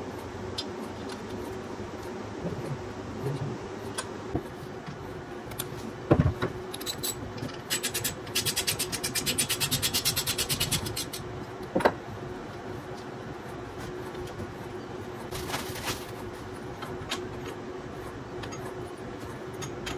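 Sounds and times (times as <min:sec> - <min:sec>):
faint steady hum: 0:00.0 - 0:19.9.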